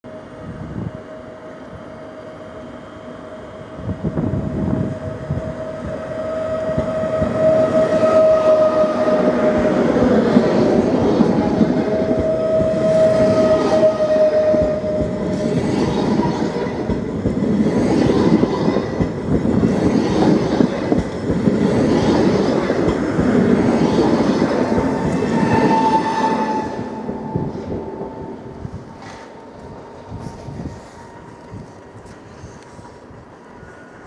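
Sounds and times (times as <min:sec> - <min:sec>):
train rumbling past: 0:00.1 - 0:34.0.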